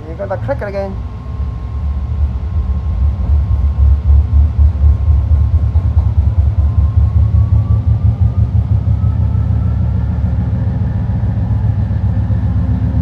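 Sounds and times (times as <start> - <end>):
train propulsion whine: 0.0 - 13.0
train running gear rumble: 0.0 - 13.0.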